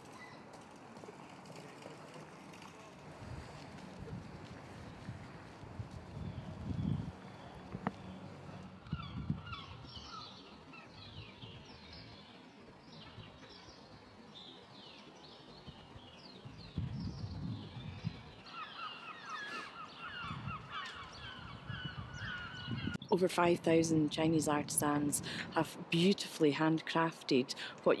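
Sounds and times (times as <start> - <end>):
birds chirping: 3.6 - 28.0.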